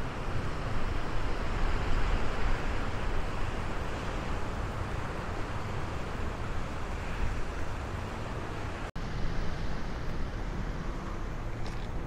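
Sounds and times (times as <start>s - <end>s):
surf washing on beach: 0.0s - 12.0s.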